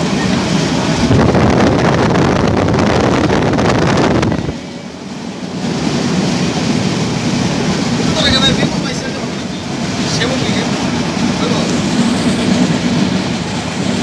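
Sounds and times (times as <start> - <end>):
train wheel and wind noise: 0.0 - 14.0.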